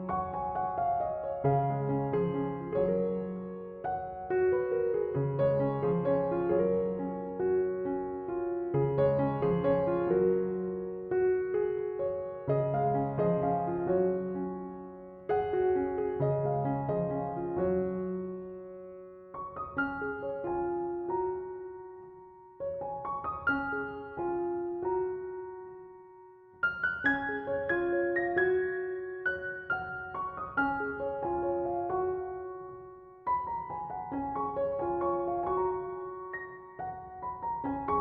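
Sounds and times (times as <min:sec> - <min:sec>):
gentle piano melody: 0:00.0 - 0:38.0.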